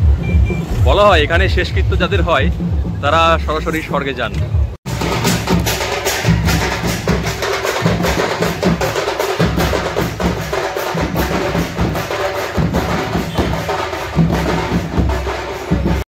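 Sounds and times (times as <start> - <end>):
large drums beaten fast: 0.0 - 3.5, 4.6 - 16.0.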